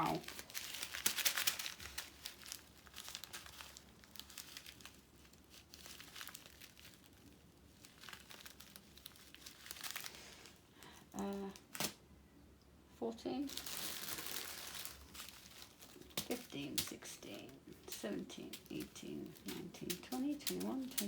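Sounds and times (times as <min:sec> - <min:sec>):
plastic bags crinkling: 0:00.0 - 0:12.0, 0:13.4 - 0:21.0.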